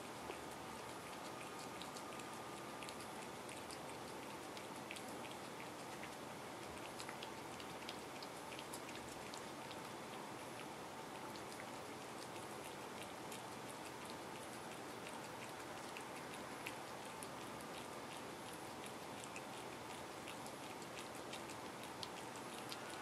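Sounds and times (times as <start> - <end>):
cat licking wet clicks: 0.0 - 23.0.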